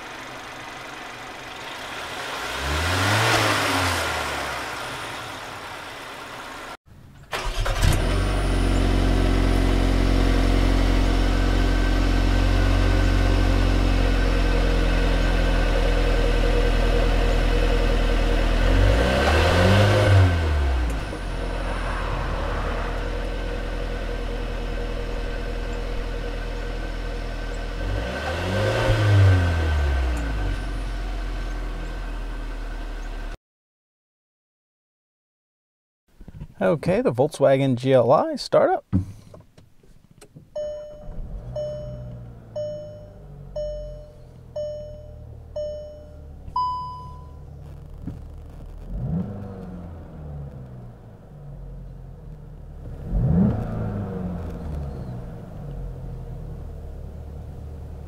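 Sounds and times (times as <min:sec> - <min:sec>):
car engine idling and revving: 0:00.0 - 0:33.4, 0:40.1 - 0:58.0.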